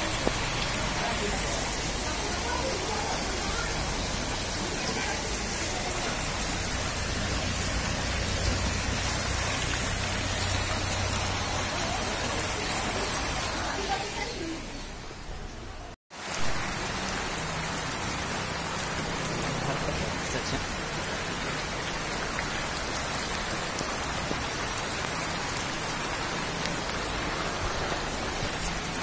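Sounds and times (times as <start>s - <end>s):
heavy rain on standing water: 0.0s - 29.0s.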